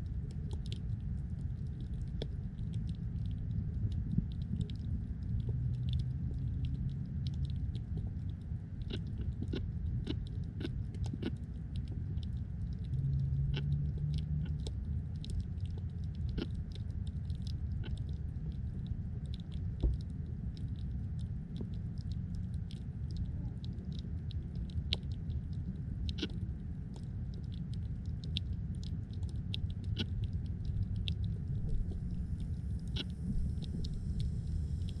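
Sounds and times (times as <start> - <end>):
underwater clicks and snaps: 0.0 - 35.0
underwater low rumble: 0.0 - 35.0.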